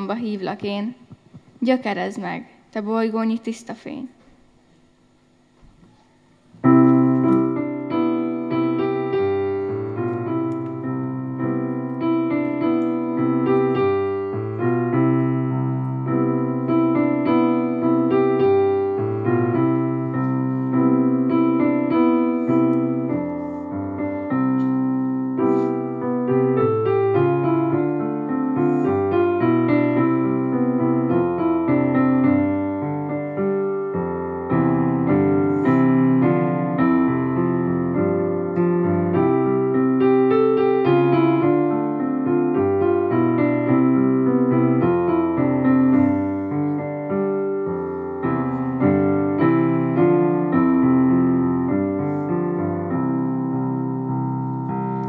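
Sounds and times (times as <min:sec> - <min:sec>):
instrumental piano music: 0:05.4 - 0:55.0.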